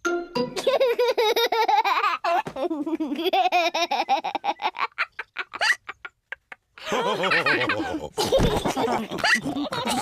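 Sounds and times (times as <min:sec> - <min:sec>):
cartoon pigs laughing: 0:00.6 - 0:10.0.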